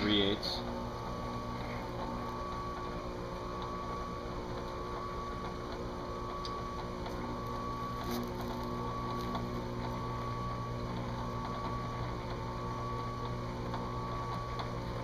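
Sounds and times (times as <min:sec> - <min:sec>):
drill press motor hum: 0:00.0 - 0:15.0.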